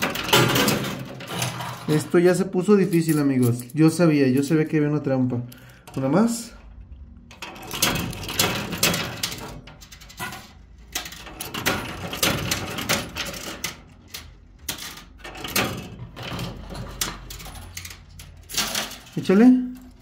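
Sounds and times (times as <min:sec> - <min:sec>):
metal coins clinking: 0:00.0 - 0:04.6, 0:07.4 - 0:20.0.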